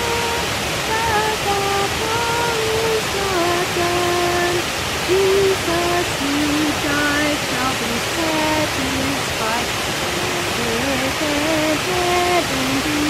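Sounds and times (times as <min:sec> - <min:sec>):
waterfall rushing: 0:00.0 - 0:13.0
woman singing a hymn: 0:00.0 - 0:13.0.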